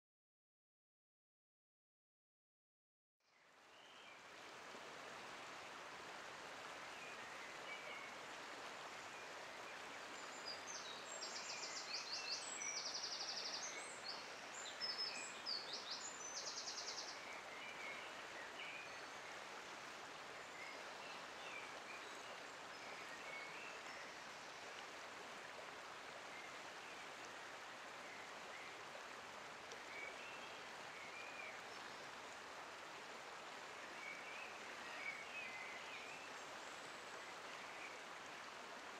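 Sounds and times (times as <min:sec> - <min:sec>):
steady background hiss: 0:03.6 - 0:38.9.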